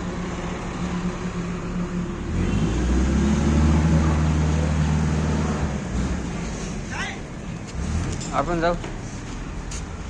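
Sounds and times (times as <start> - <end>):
heavy vehicle engine running: 0.0 - 10.0.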